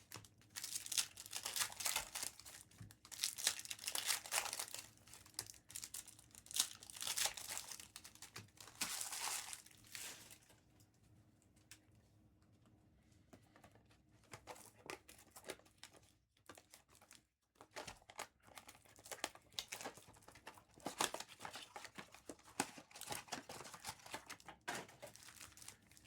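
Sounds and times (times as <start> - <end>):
foil wrappers crinkling and tearing: 0.0 - 10.5, 14.5 - 26.0.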